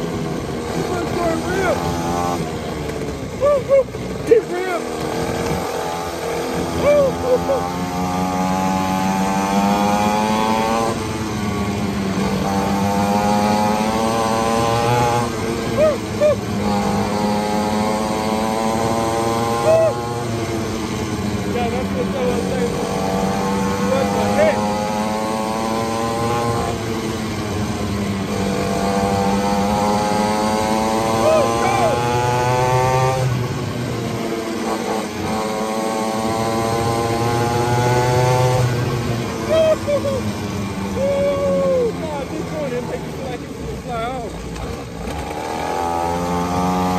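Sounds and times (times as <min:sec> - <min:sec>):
two-stroke engine under throttle: 0:00.0 - 0:46.9.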